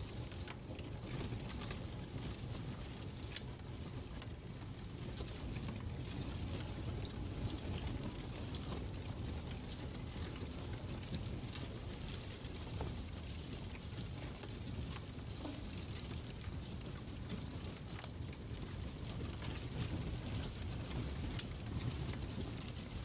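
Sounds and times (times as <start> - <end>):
fire popping and crackling: 0.0 - 23.0
low fire rumble: 0.0 - 23.0.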